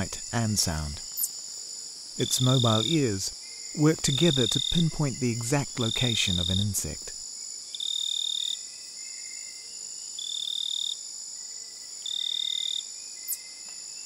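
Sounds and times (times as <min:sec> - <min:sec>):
crickets buzzing: 0:00.0 - 0:14.0
insect trill: 0:00.0 - 0:14.0.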